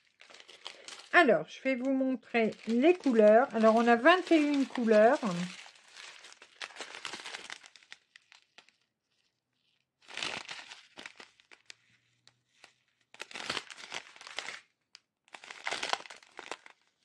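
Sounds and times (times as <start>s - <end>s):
plastic sachets crinkling: 0.0s - 17.0s.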